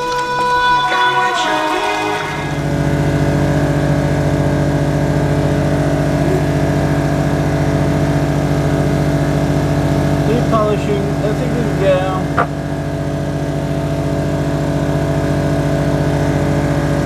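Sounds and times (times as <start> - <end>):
engine running with regular throb: 0.0 - 17.0.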